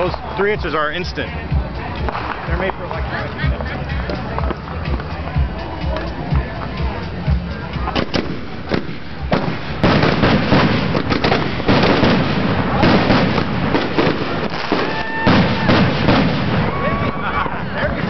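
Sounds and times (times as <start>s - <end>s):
fireworks popping and crackling: 0.0s - 5.2s, 5.8s - 18.0s.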